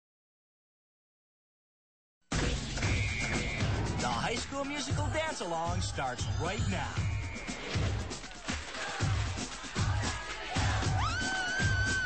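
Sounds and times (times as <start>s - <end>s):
upbeat pop music: 2.3s - 12.0s.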